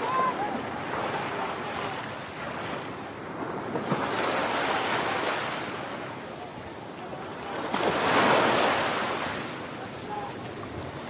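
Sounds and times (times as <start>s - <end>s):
ocean waves breaking: 0.0s - 11.0s.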